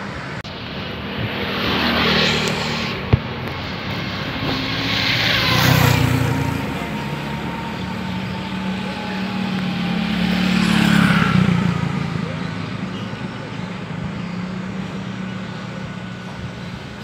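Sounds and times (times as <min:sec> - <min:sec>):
engine running: 0:00.0 - 0:17.0
vehicles driving past: 0:00.0 - 0:17.0.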